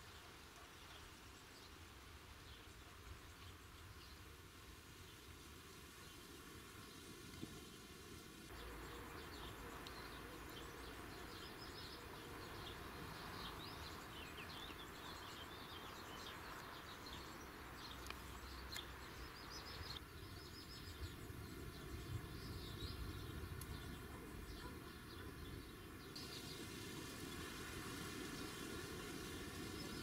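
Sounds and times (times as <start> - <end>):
small birds chirping: 5.1 - 30.0.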